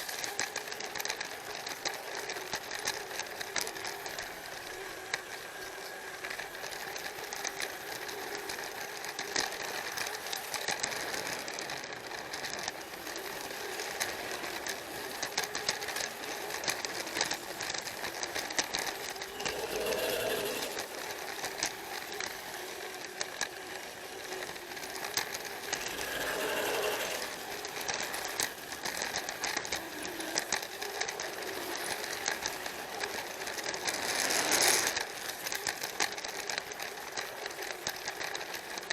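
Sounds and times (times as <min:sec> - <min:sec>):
plastic wheels clicking on track: 0:00.0 - 0:38.9
toy train motor whirring: 0:00.0 - 0:38.9.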